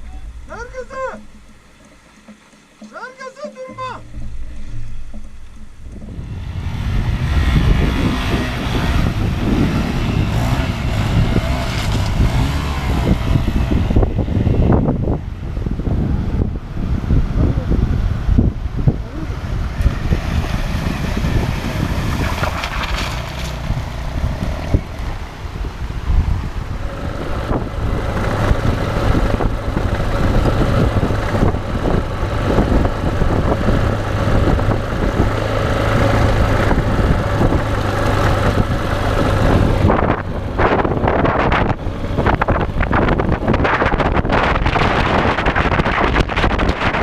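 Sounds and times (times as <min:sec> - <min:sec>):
motorcycle engine running: 0:00.0 - 0:03.0, 0:03.6 - 0:47.0
wind buffeting microphone: 0:03.8 - 0:47.0.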